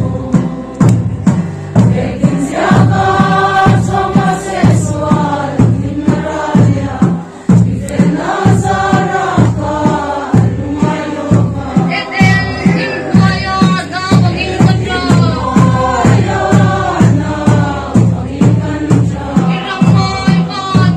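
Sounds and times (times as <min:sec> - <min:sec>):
group of people singing: 0:00.0 - 0:20.9
steady drum beat: 0:00.0 - 0:20.9.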